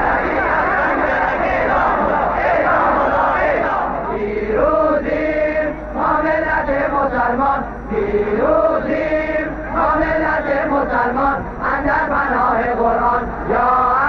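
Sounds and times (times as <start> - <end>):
crowd chanting in unison: 0.0 - 14.0.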